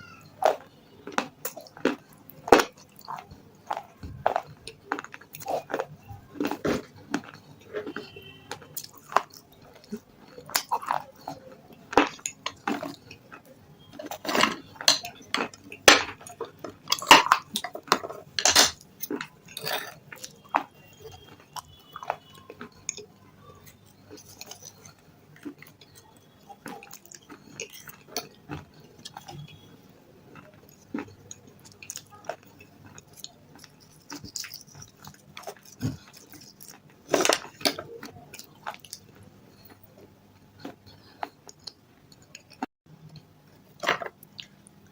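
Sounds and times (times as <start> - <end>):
chewing crunchy chips: 0.0 - 44.9.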